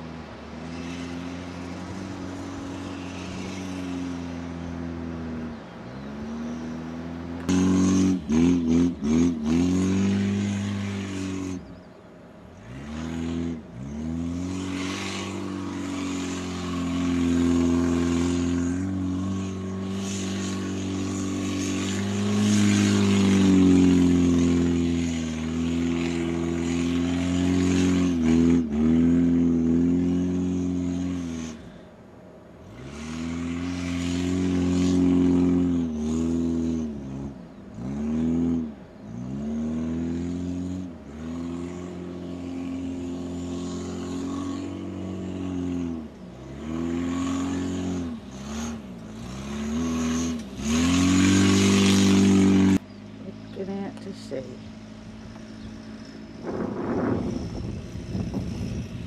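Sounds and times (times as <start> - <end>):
buggy engine revving hard: 0.0 - 11.9, 12.5 - 31.9, 32.6 - 59.0.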